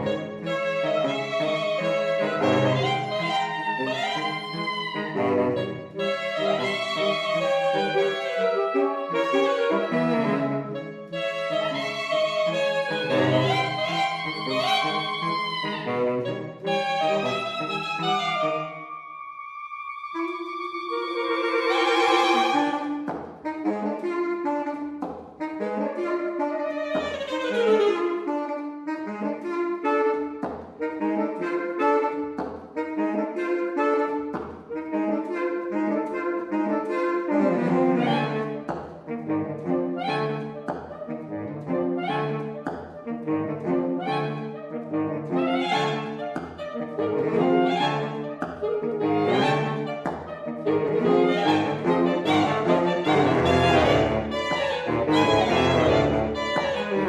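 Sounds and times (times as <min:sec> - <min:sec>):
saxophone quartet playing: 0:00.0 - 0:57.0.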